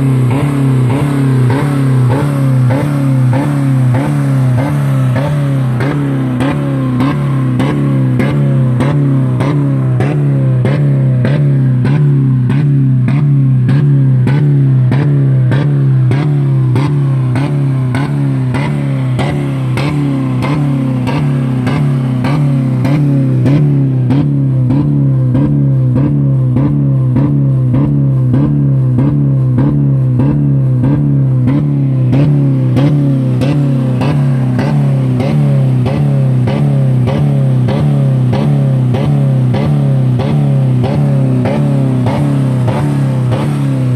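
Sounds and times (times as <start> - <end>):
car engine hitting rev limiter: 0.0 - 43.9.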